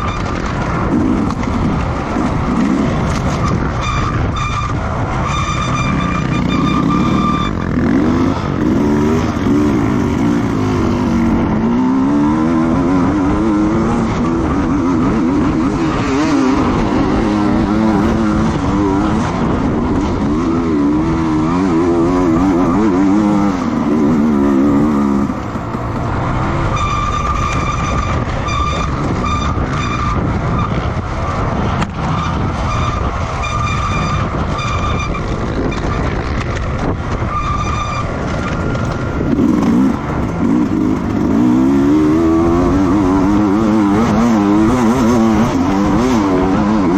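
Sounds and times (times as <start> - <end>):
racing motorcycle engines: 0.0 - 46.9.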